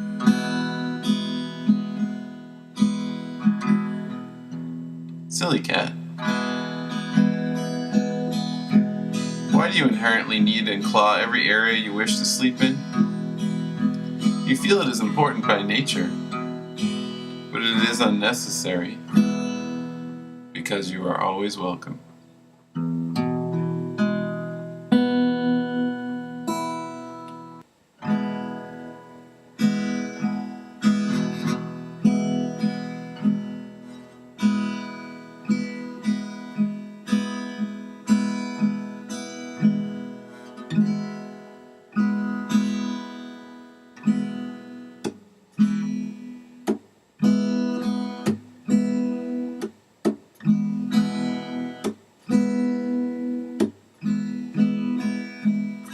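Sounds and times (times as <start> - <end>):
acoustic guitar chords: 0.0 - 55.9.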